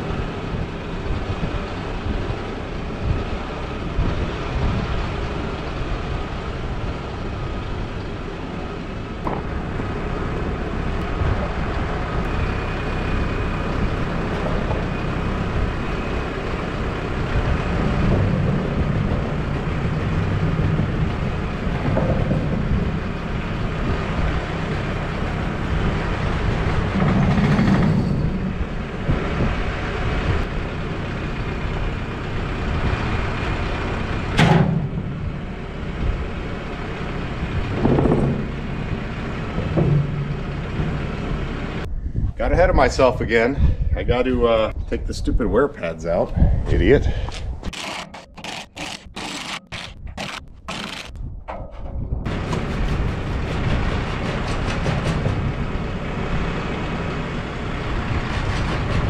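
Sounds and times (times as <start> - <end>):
truck engine running: 0.0 - 41.9, 47.5 - 51.4, 52.2 - 59.0.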